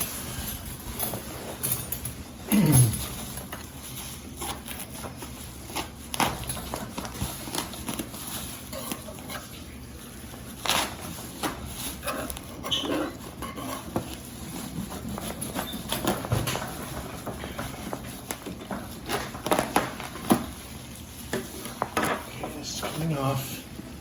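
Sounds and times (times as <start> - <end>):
wrapping rustling: 0.0 - 23.8.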